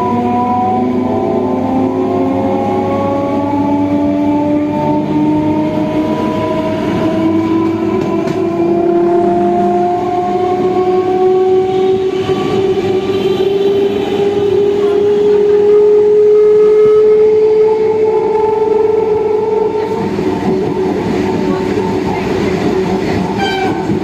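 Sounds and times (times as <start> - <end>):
rising train whine: 0.0 - 24.0
train rumbling: 0.0 - 24.0.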